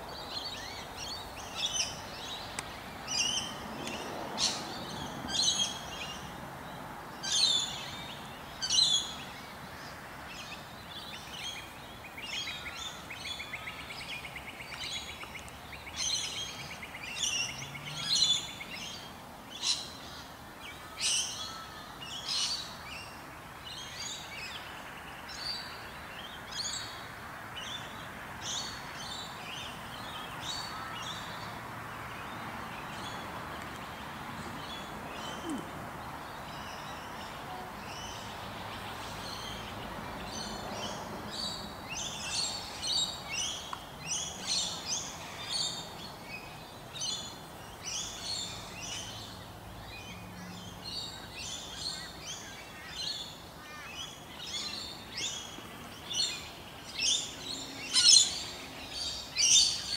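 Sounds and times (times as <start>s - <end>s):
background noise: 0.0s - 59.9s
small birds chirping: 0.0s - 59.9s.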